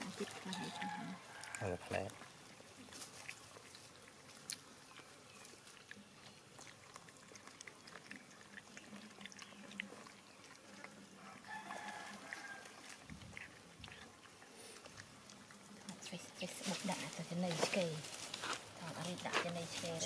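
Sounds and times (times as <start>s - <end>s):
puppy licking and chewing: 0.0s - 20.0s.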